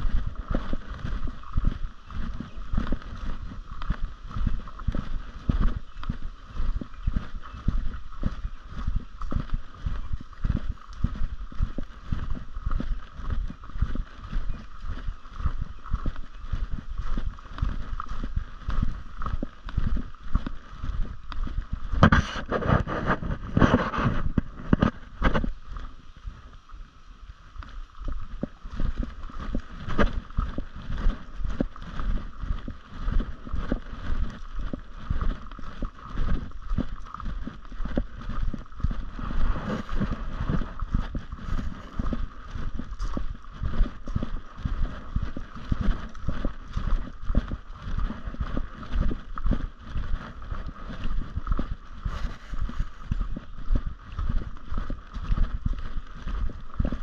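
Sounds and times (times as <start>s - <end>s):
microphone handling noise: 0.0s - 26.7s, 27.5s - 57.0s
footsteps on gravel: 0.0s - 26.8s, 27.5s - 57.0s
wind on microphone: 0.0s - 57.0s.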